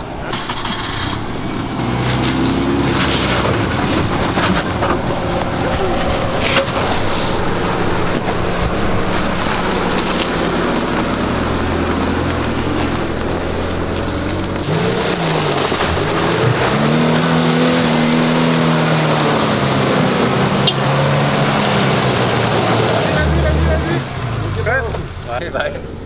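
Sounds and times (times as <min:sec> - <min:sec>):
car engine idling: 0:00.0 - 0:26.0
car engine revving hard: 0:00.0 - 0:26.0.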